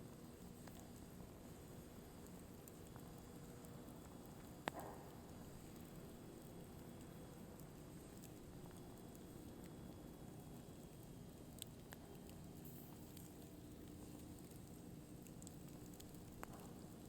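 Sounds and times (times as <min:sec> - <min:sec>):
low rumble of flames: 0:00.0 - 0:17.0
crackling wood pops: 0:02.2 - 0:17.0.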